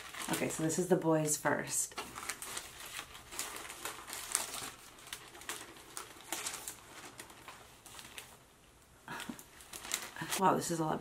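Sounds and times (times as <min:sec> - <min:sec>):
tissue paper rustling: 0:00.0 - 0:10.8.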